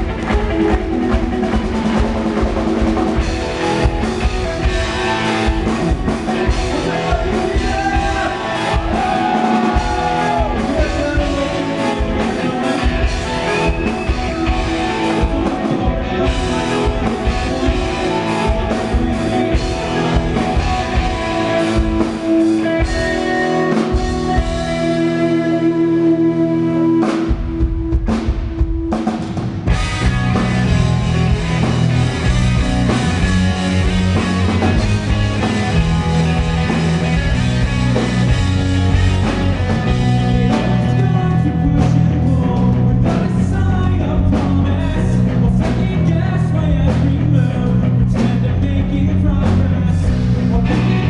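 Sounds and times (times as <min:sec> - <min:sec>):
drum kit pounding: 0:00.0 - 0:25.1, 0:27.0 - 0:51.0
electric guitars and bass: 0:00.0 - 0:51.0.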